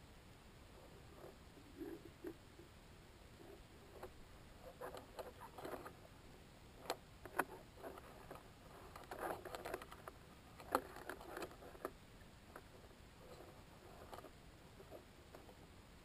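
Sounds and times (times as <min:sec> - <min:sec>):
faint clicks and crackles: 0:00.6 - 0:16.0.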